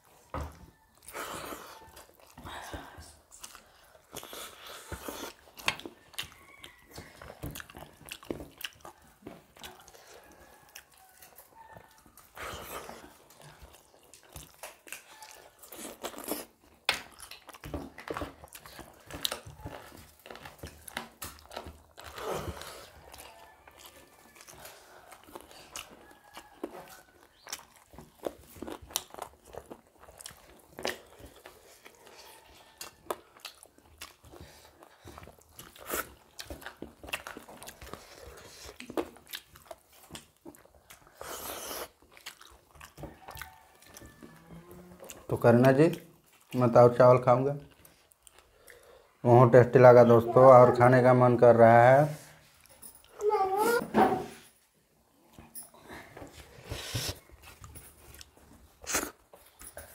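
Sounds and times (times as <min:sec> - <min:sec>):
chewing and mouth sounds: 0:00.0 - 0:49.3, 0:55.1 - 0:59.9.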